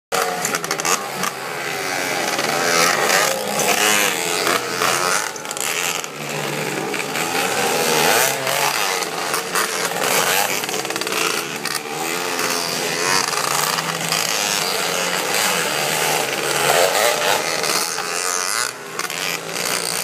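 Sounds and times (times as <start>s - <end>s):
dirt bike engines revving: 0.1s - 20.0s.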